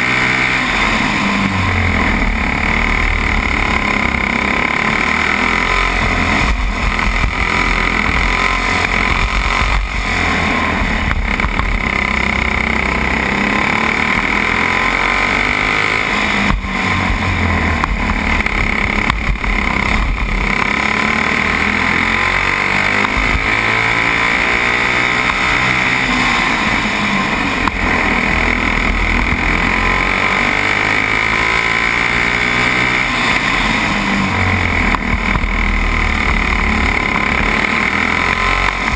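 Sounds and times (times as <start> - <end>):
kart engine revving: 0.0 - 38.9
rushing noise: 0.0 - 38.9.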